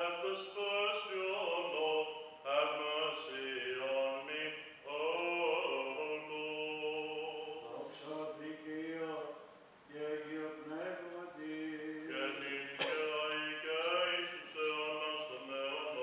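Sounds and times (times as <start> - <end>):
man chanting: 0.0 - 16.0.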